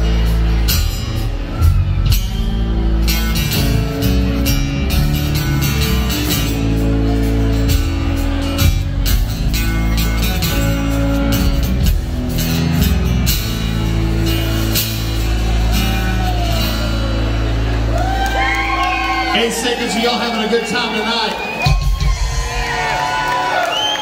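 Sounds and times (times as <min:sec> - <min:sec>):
live rock band playing: 0:00.0 - 0:23.4.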